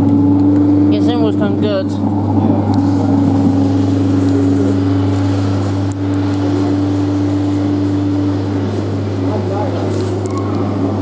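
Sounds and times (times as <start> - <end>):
electric motor humming and whining: 0.0 - 11.0.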